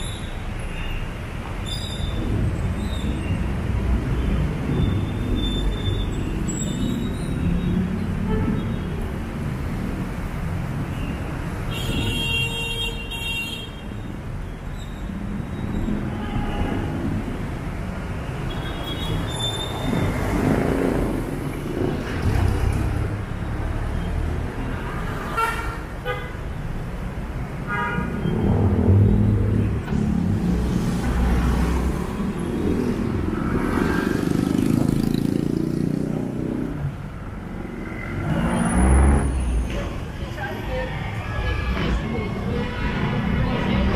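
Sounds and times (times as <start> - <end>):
traffic rumble: 0.0 - 43.9.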